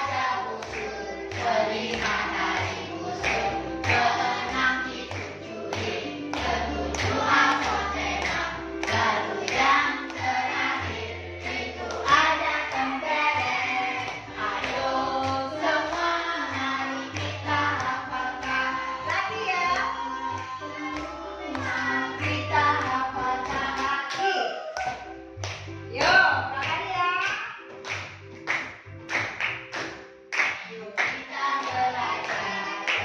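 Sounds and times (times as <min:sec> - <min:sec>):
children clapping hands: 0:00.0 - 0:33.0.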